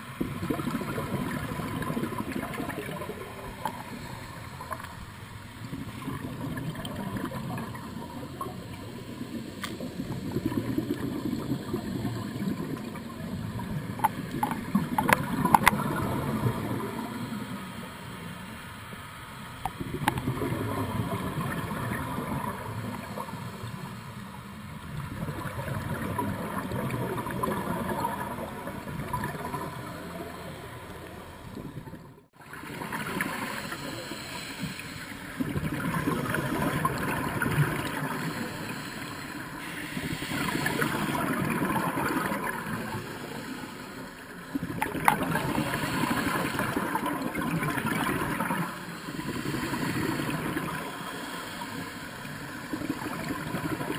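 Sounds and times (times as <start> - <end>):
muffled underwater bubbles gurgling: 0.0 - 18.5, 19.6 - 53.9.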